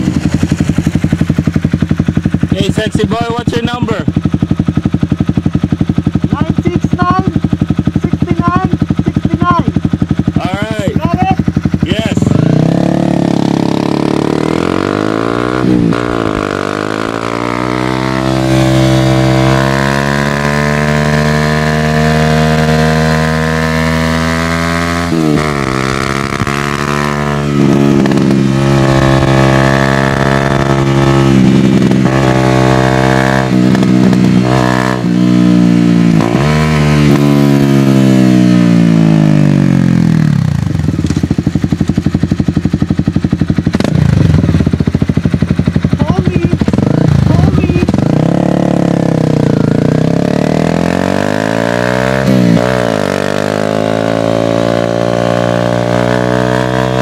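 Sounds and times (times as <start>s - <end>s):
motorcycle engine revving through shifts: 0.0s - 57.0s.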